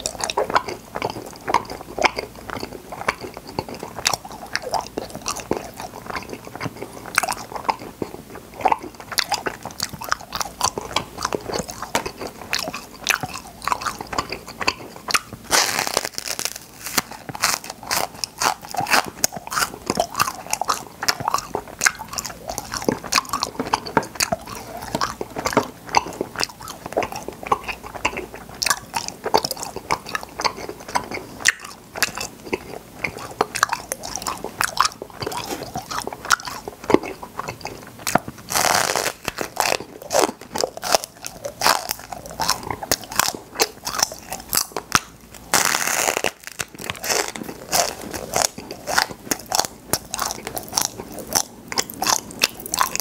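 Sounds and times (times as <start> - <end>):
chewing popping candy: 0.0 - 53.0.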